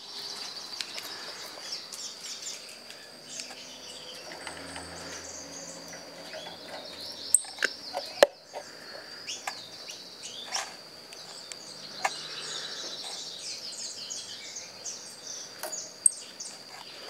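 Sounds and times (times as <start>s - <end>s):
small birds chirping: 0.0s - 17.0s
steady high whine: 0.0s - 17.0s.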